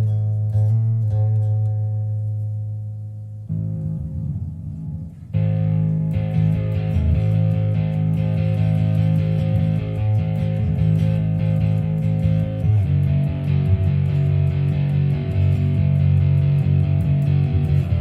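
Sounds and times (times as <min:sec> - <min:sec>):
bass guitar low notes: 0:00.0 - 0:18.0.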